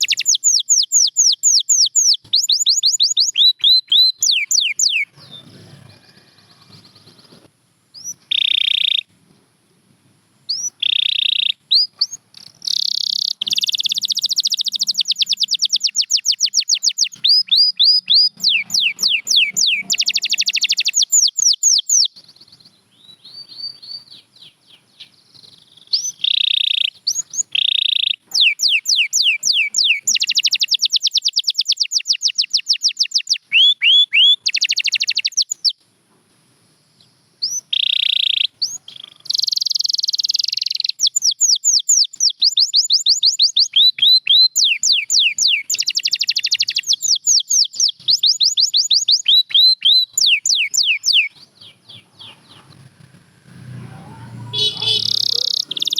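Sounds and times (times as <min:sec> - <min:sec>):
canary singing: 0:00.0 - 0:09.1, 0:10.5 - 0:35.8, 0:37.0 - 0:55.9.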